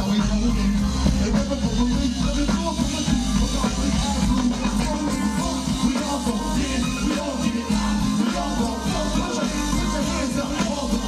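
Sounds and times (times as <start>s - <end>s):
hip hop music over pa: 0.0s - 11.0s.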